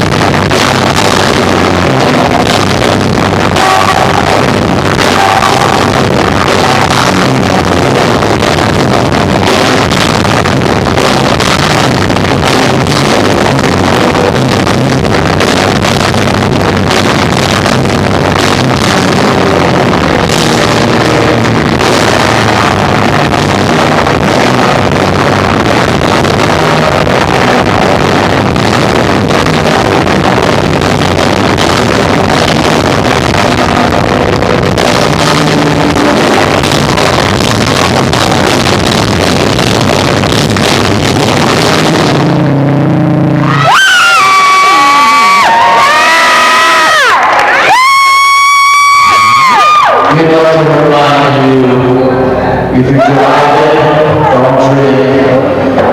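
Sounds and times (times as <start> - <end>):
distorted live rock band: 0.0 - 55.9.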